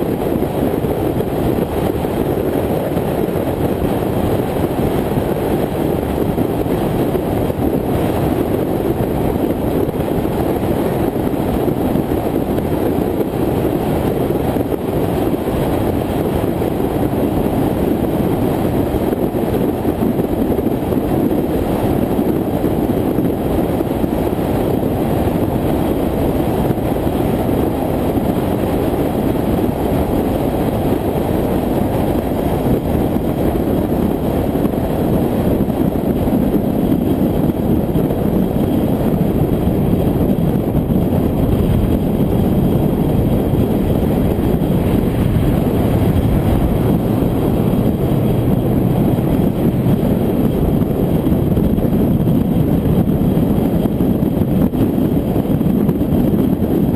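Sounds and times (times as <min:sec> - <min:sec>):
vehicle road and wind noise: 0:00.0 - 0:56.9
wind buffeting microphone: 0:00.0 - 0:56.9.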